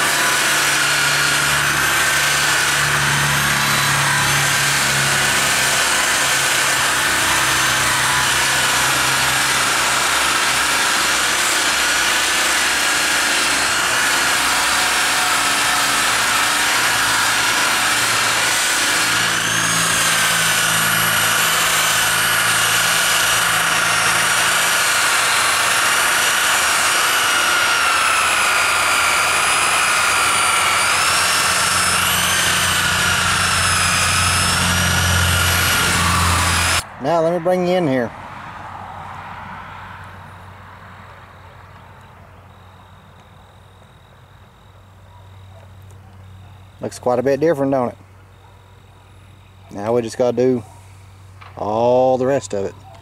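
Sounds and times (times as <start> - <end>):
electric buffer motor whine: 0.0 - 37.7, 41.7 - 53.0.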